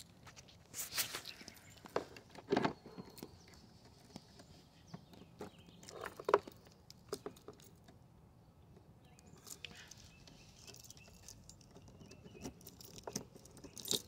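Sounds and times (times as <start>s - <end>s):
handling taps and rustles: 0.0s - 8.0s, 8.8s - 14.0s.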